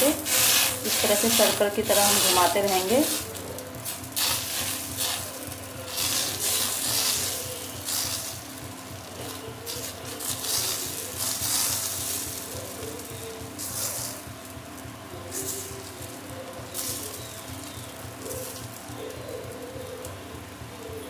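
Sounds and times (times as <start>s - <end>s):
batter sizzling on hot pan: 0.0s - 20.8s.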